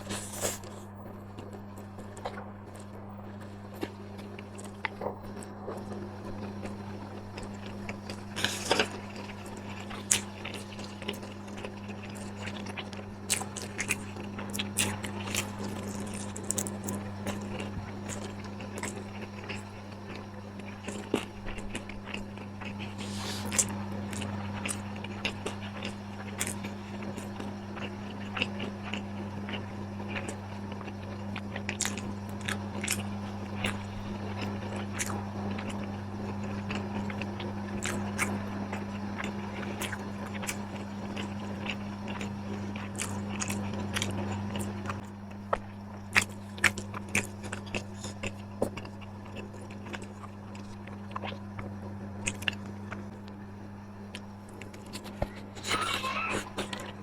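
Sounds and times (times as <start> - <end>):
person chewing crunchy food: 0.0 - 57.0
steady low hum: 0.0 - 57.0.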